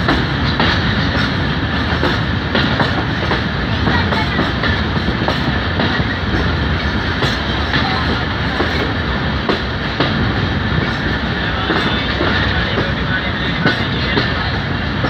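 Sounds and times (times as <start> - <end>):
train coach rumble and rush: 0.0 - 15.0.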